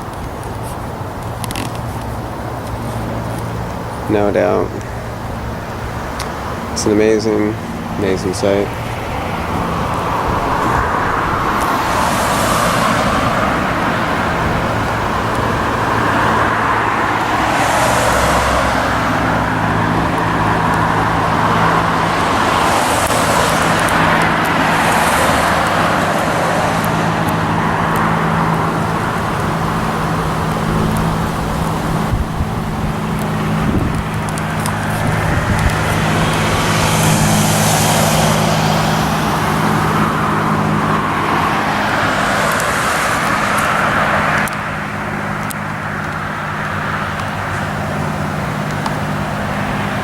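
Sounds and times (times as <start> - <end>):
low engine hum: 0.0 - 50.0
vehicles passing: 0.0 - 50.0.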